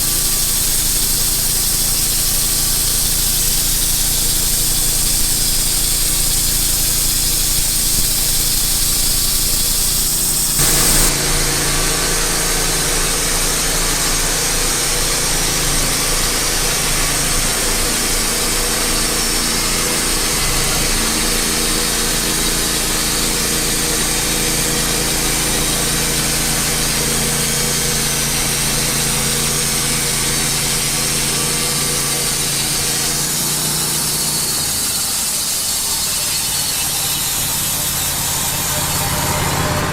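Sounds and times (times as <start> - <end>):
band saw blade cutting log: 0.0 - 39.9
sawmill engine under load: 0.0 - 39.9.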